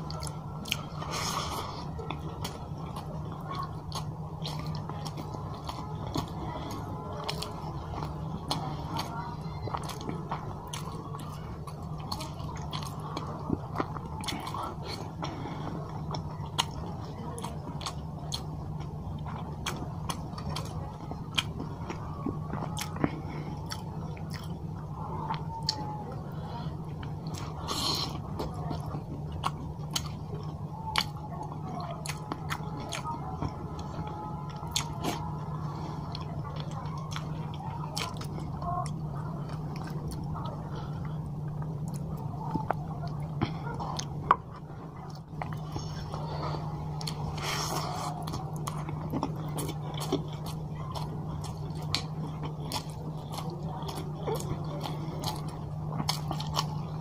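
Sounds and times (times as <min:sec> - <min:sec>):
mouth chewing and smacking: 0:00.0 - 0:57.0
steady low hum: 0:00.0 - 0:57.0.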